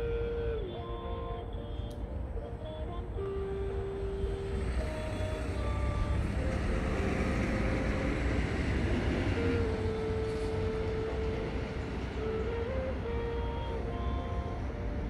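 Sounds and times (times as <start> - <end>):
road traffic rumble: 0.0 - 15.0
soft long musical notes: 0.0 - 15.0
vehicle passing: 0.0 - 15.0.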